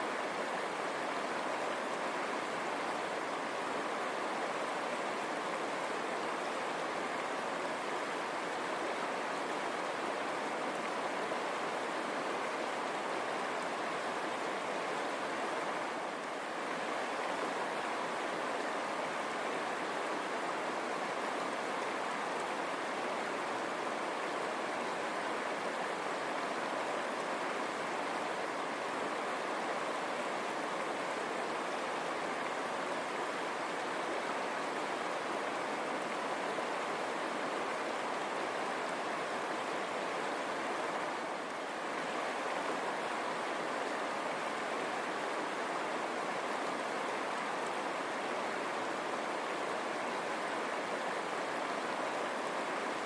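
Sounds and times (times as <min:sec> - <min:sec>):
river water rushing over stones: 0:00.0 - 0:53.0.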